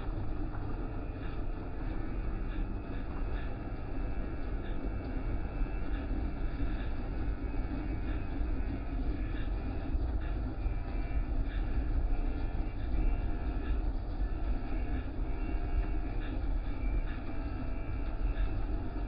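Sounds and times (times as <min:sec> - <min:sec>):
car wash machinery rumble: 0:00.0 - 0:19.0.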